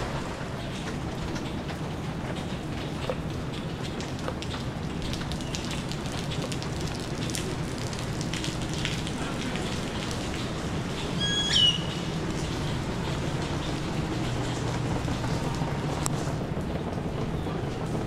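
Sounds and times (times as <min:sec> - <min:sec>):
rain patter: 0:00.0 - 0:18.0.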